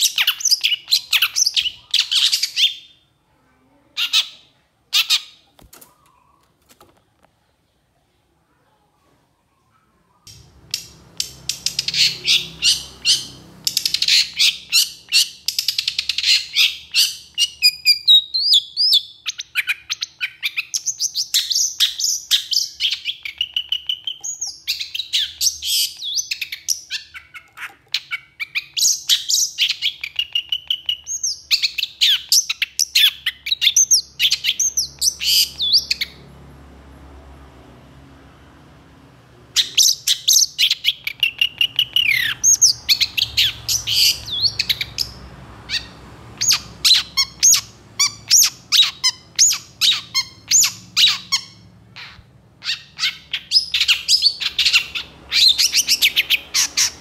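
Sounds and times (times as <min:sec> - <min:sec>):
bird chattering and whistling song: 0:00.0 - 0:03.0, 0:10.3 - 0:36.2, 0:39.6 - 0:57.0.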